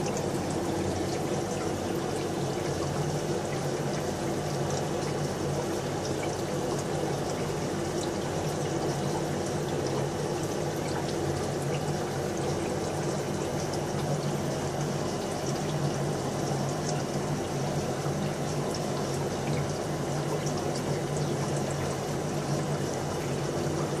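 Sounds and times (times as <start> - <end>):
aquarium filter bubbling: 0.0 - 24.0.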